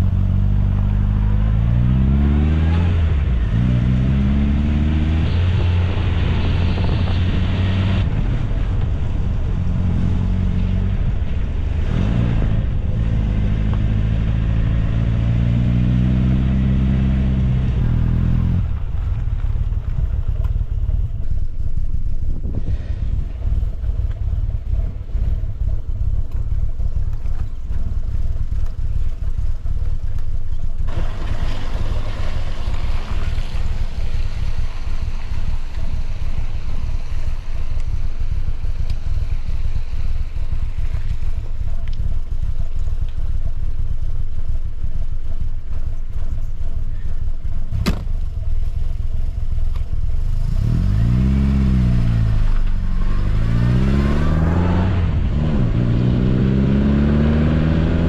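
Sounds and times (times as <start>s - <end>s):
car engine accelerating: 0.0s - 58.0s
road and wind rush: 0.0s - 58.0s.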